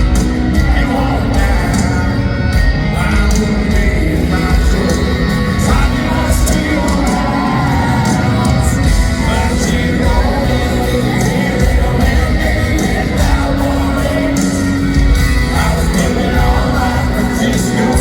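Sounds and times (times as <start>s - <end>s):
crowd yelling: 0.0s - 18.0s
live country band playing: 0.0s - 18.0s
person singing: 0.0s - 18.0s.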